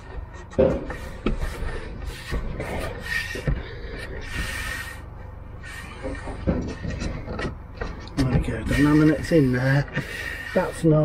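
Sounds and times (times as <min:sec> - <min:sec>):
boards rubbing and scraping: 0:00.0 - 0:11.0.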